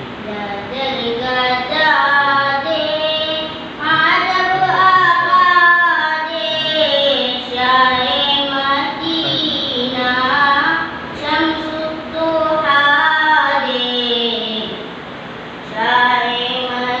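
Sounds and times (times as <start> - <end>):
boy singing unaccompanied: 0.2 - 14.8, 15.7 - 17.0.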